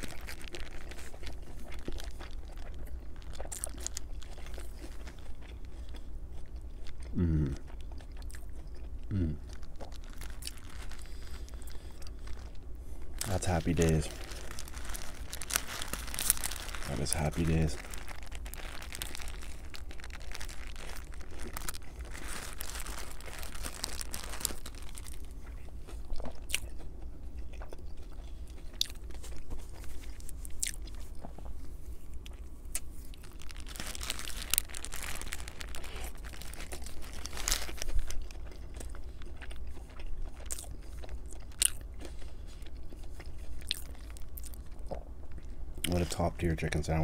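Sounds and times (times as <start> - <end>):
fried breading crunching: 0.0 - 12.5, 13.1 - 31.4, 32.1 - 45.0.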